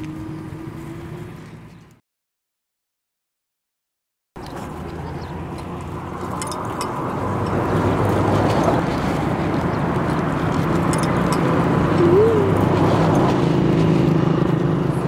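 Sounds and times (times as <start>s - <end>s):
engine hum: 0.0s - 2.0s, 4.4s - 15.0s.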